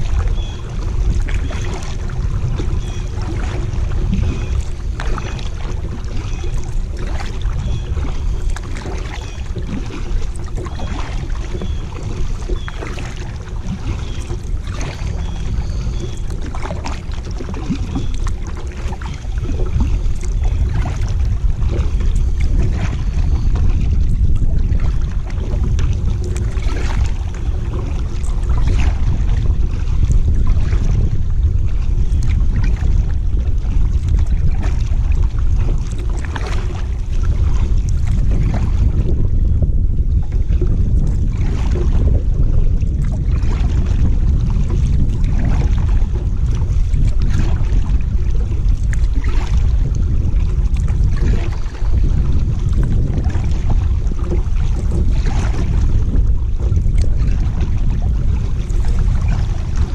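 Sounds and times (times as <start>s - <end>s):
water splashes and drips: 0.0s - 31.0s, 32.2s - 33.2s, 33.9s - 38.8s, 42.8s - 48.1s, 48.7s - 51.8s, 52.5s - 55.8s
paddle strokes in water: 0.0s - 59.9s
wind rumble on microphone: 0.0s - 59.9s.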